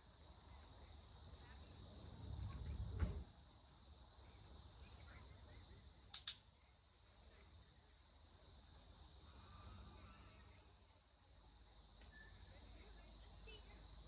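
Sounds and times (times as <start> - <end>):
high buzz of insects: 0.0 - 14.0.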